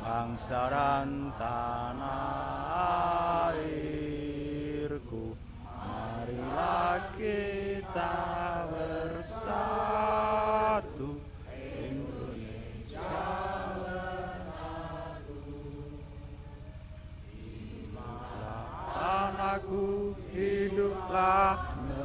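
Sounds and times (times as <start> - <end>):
voices chanting held notes: 0.0 - 22.0.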